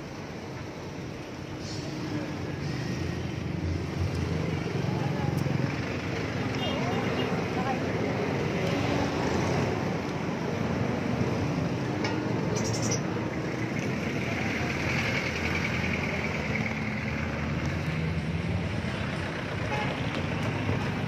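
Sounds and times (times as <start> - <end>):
people in street: 0.0 - 21.0
road traffic: 0.0 - 21.0
vehicles passing: 0.0 - 21.0.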